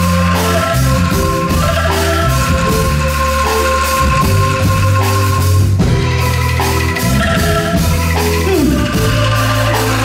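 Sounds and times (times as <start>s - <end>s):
angklungs playing a melody: 0.0s - 10.0s
sustained low bass notes: 0.0s - 10.0s.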